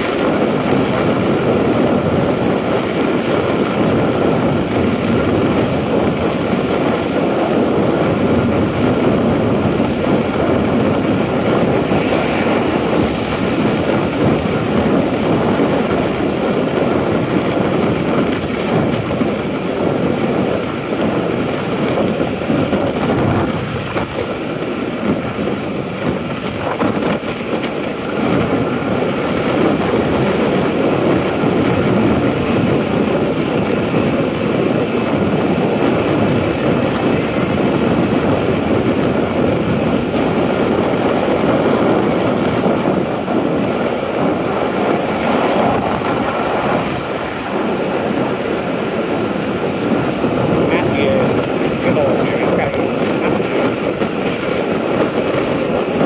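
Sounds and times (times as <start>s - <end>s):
motorbike engine and tyre noise: 0.0s - 56.0s
wind rushing on microphone: 0.0s - 56.0s.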